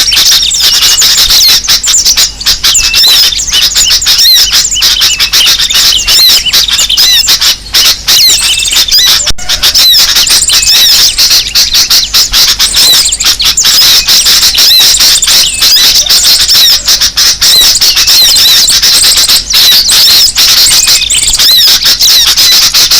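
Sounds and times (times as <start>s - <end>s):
many small birds chattering: 0.0s - 22.9s.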